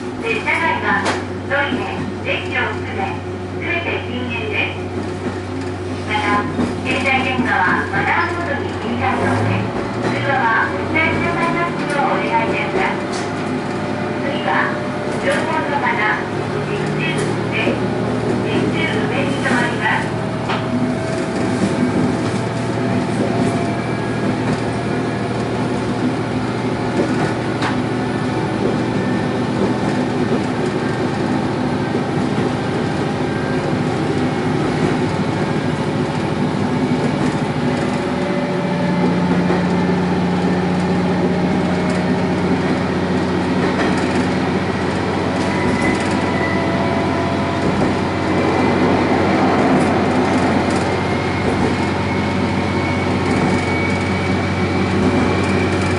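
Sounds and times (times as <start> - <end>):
diesel engine drone: 0.0 - 55.9
rail noise: 0.0 - 55.9.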